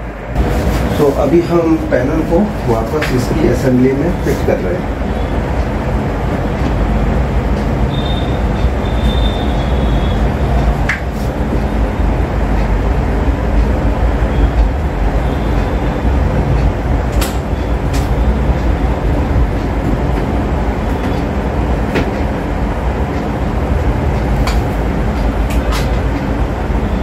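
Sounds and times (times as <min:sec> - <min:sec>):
deep background noise: 0:00.0 - 0:27.0.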